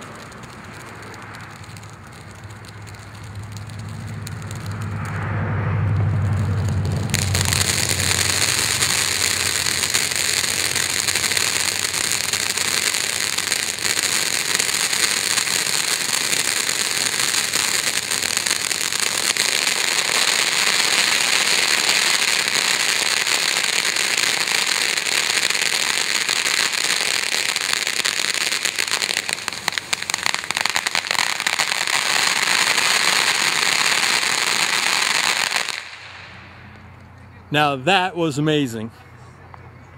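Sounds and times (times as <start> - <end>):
firework fountain hissing and crackling: 0.0 - 37.0.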